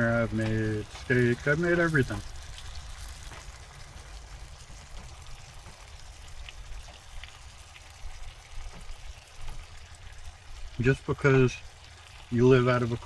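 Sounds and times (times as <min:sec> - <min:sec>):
food sizzling in a pan: 0:00.0 - 0:13.0
low steady rumble: 0:00.0 - 0:13.0.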